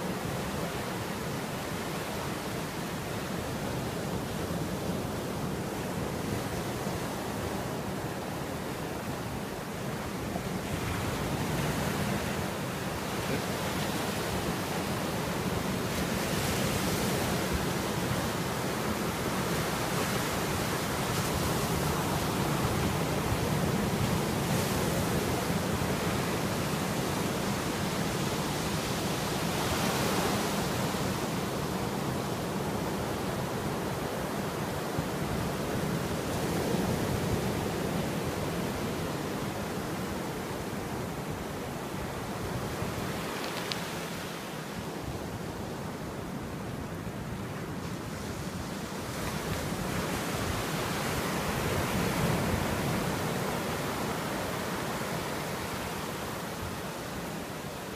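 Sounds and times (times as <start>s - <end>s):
sea surf breaking on beach: 0.0s - 57.9s.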